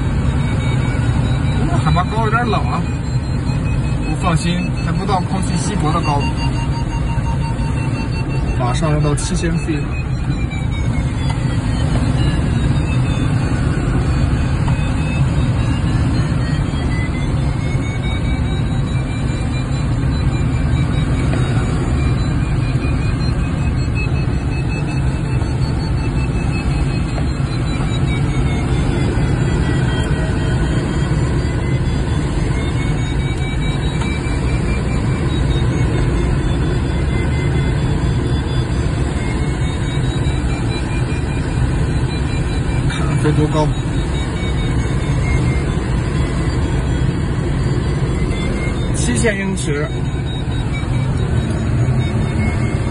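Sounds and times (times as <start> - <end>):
light aircraft engine and propeller: 0.0 - 52.9
faint whistling tones: 0.3 - 52.9.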